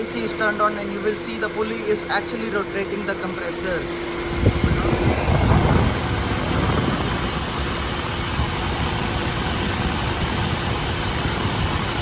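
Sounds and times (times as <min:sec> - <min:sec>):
ac compressor turning: 0:00.0 - 0:12.0
car engine idling: 0:00.0 - 0:12.0
condenser fans running: 0:00.0 - 0:12.0.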